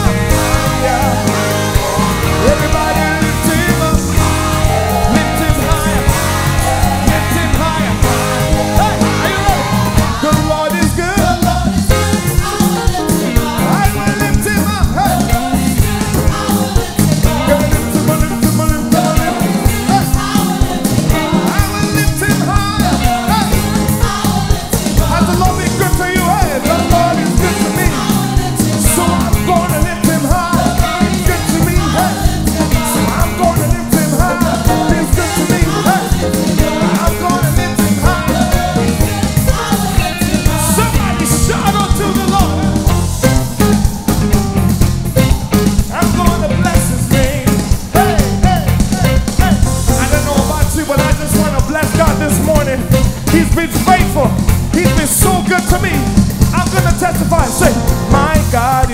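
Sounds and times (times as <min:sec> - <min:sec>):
gospel singing: 0:00.0 - 0:58.9
keyboard and band playing: 0:00.0 - 0:58.9.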